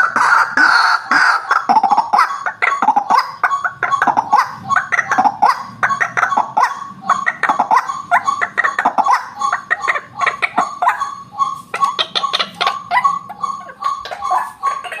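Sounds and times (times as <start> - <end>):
waterhen calling harsh notes: 0.0 - 15.0.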